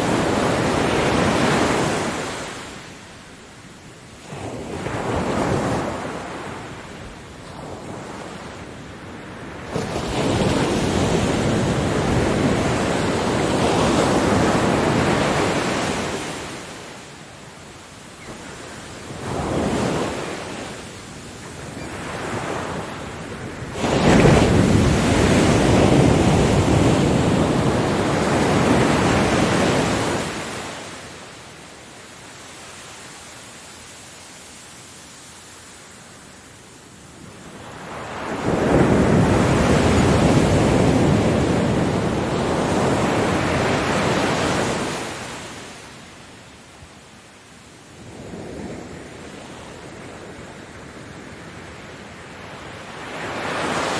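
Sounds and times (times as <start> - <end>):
ocean waves crashing: 0.0 - 3.3, 4.1 - 46.4, 47.7 - 53.9.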